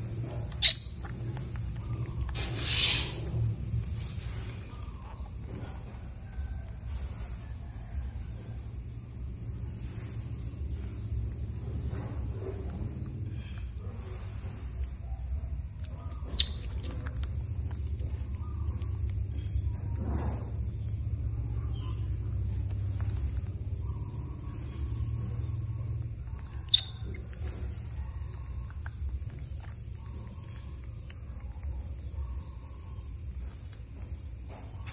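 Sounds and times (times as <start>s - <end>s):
high-pitched insect trill: 0.0s - 34.9s
low hum: 0.0s - 34.9s.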